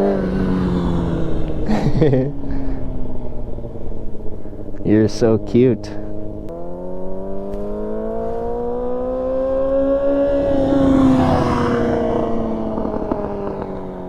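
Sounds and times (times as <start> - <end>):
exhaust popping and crackling: 0.0 - 14.0
motorcycle engine accelerating: 0.0 - 14.0.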